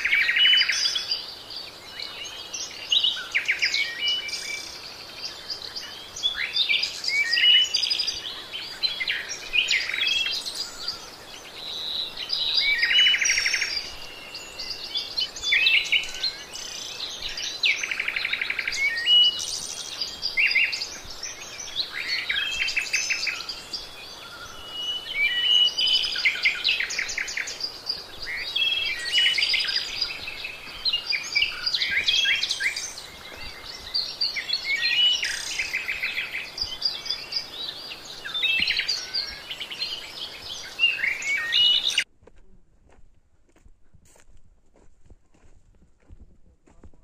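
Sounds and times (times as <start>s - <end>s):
songbirds chirping and trilling: 0.0s - 42.1s.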